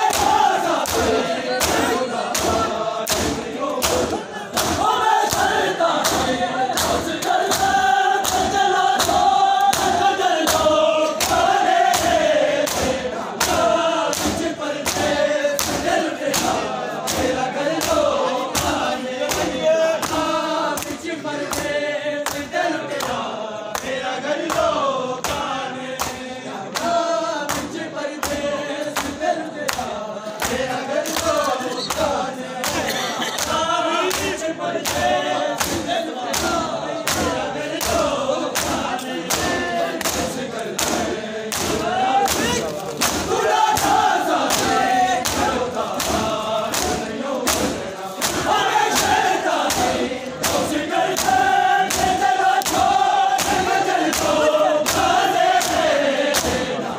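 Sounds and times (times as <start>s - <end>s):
men chanting a lament: 0.0s - 56.9s
men slapping their chests in unison: 0.0s - 56.9s.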